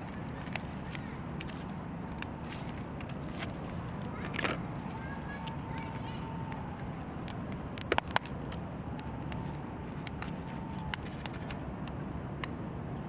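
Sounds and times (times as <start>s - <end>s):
low outdoor rumble: 0.0s - 13.0s
sharp clicks and crackles: 0.0s - 13.0s.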